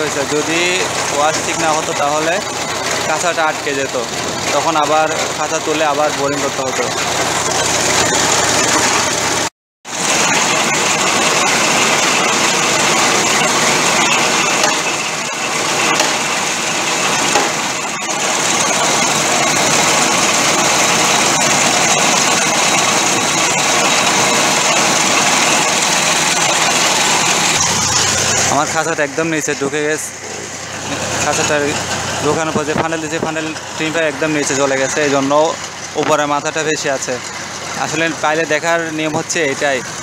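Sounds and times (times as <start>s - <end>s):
winch engine running: 0.0s - 40.0s.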